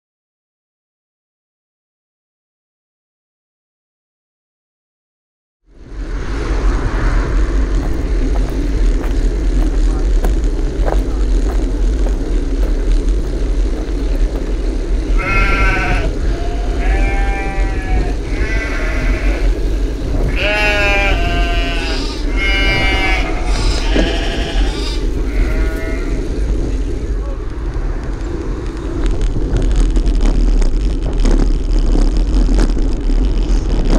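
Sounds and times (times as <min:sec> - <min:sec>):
wind buffeting microphone: 0:05.7 - 0:33.9.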